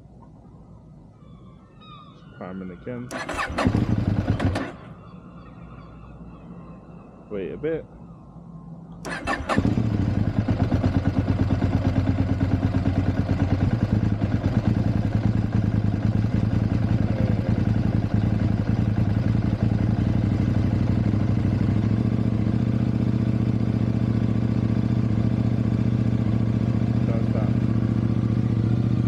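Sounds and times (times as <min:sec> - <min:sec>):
motorcycle engine idling: 0:03.1 - 0:06.4, 0:09.0 - 0:29.0.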